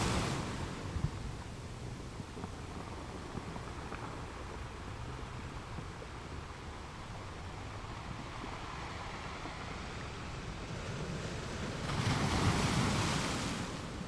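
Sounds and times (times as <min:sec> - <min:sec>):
ocean waves washing onto shore: 0:00.0 - 0:14.0.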